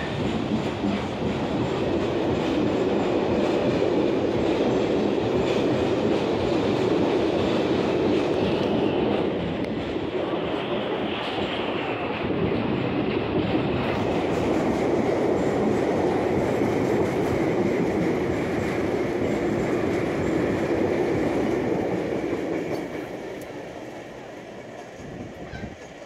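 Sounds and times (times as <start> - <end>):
freight train rumbling past: 0.0 - 26.0
train wheel clatter: 0.0 - 26.0.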